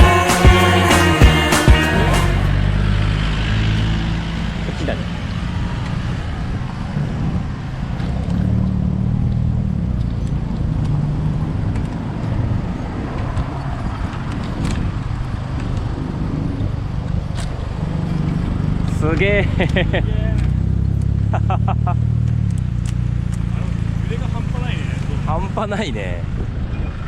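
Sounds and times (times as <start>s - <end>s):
traffic noise: 0.0s - 27.0s
vehicle engine humming: 0.0s - 27.0s.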